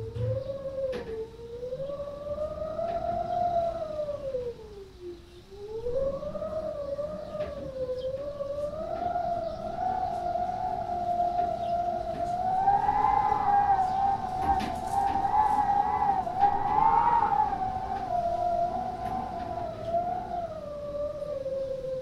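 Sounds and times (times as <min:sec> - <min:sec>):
low gusty wind rumble: 0:00.0 - 0:22.0
wind whistling through window gap: 0:00.0 - 0:22.0.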